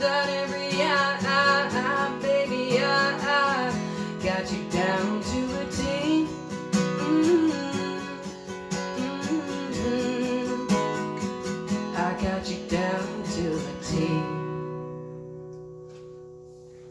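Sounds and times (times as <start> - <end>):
acoustic guitar strumming: 0.0 - 16.9.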